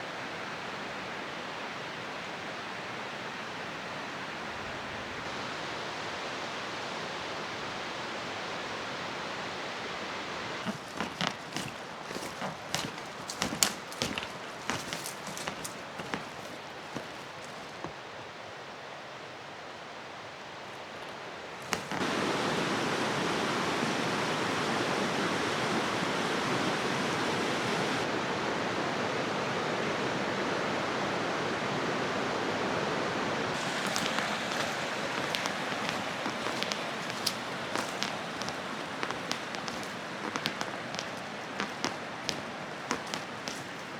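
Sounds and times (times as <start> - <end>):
mountain stream flowing: 0.0 - 43.9.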